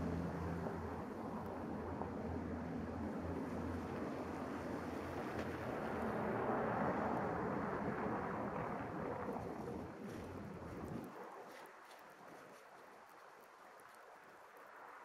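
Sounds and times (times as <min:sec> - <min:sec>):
car tyres on snowy street: 0:00.0 - 0:15.0.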